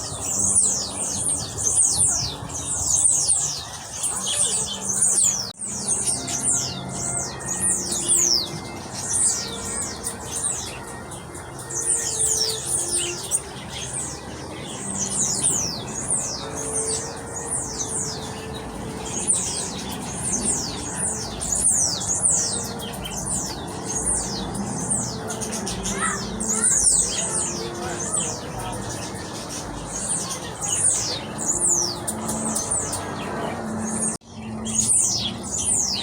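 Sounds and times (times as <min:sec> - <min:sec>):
low background murmur: 0:00.0 - 0:36.0
small birds chirping: 0:00.0 - 0:36.0.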